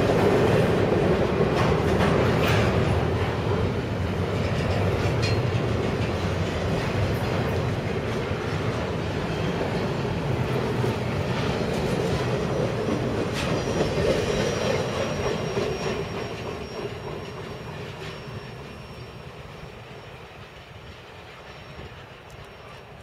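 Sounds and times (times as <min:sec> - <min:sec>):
freight train wheels rolling: 0:00.0 - 0:23.0.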